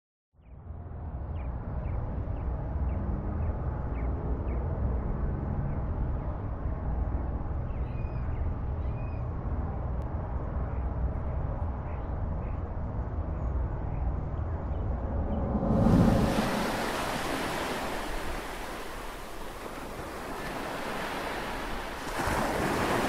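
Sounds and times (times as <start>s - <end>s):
low rumbling noise: 0.6s - 23.0s.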